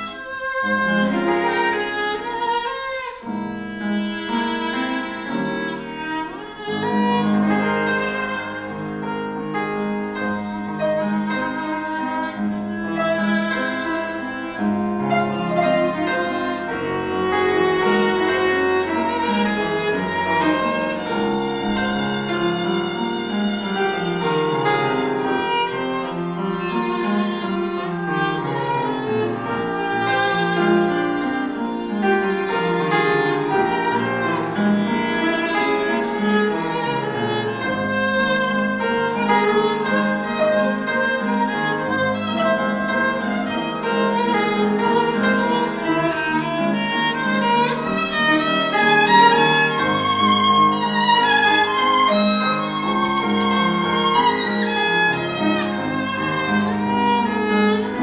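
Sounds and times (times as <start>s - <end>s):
grand piano: 0.0s - 58.0s
violin: 0.0s - 58.0s.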